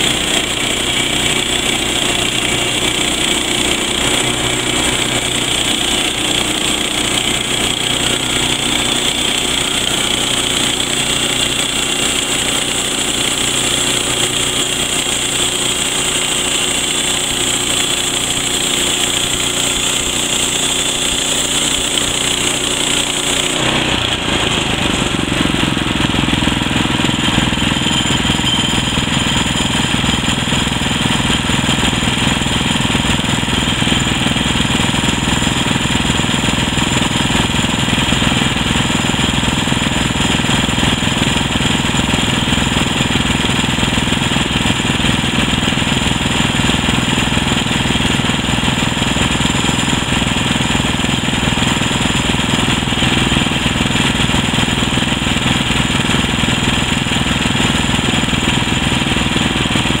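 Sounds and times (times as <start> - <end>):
sawmill engine running: 0.0 - 60.0.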